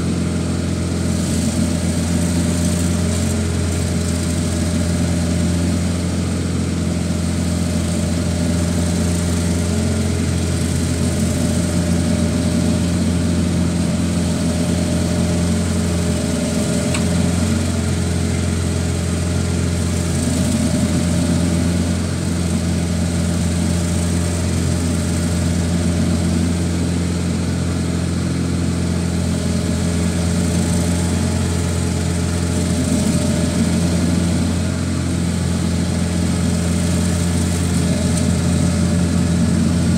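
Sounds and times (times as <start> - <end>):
cutter wheel grinding stump: 0.0 - 39.9
stump grinder engine running: 0.0 - 39.9.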